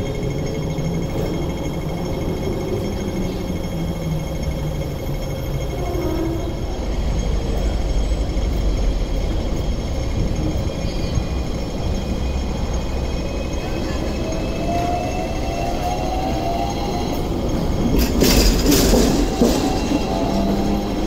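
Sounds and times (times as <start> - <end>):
electric tram rumbling over track: 0.0 - 21.0.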